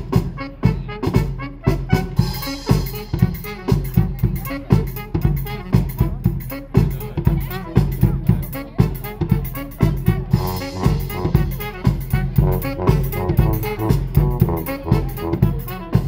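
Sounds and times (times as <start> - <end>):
bass drum steady beat: 0.0 - 16.0
brass horns playing: 0.0 - 16.0
sousaphone bass line: 0.0 - 16.0.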